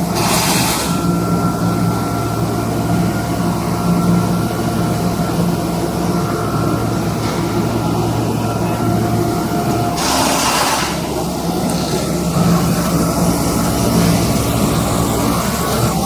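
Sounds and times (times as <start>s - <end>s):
cutting machine humming: 0.0s - 16.0s.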